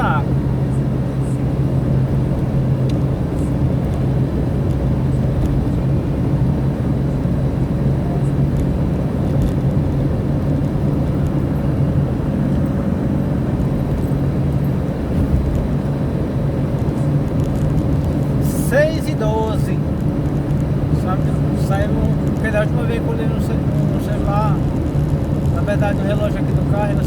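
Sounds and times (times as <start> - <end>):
car engine drone: 0.0 - 27.0
tyre and road noise: 0.0 - 27.0.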